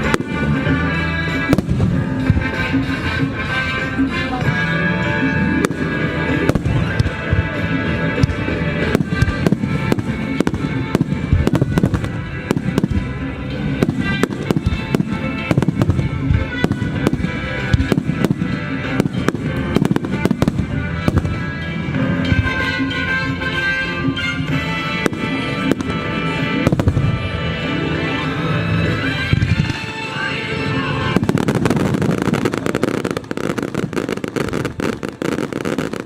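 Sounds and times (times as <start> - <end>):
fireworks bursting: 0.0 - 36.0
loud music: 0.0 - 36.0.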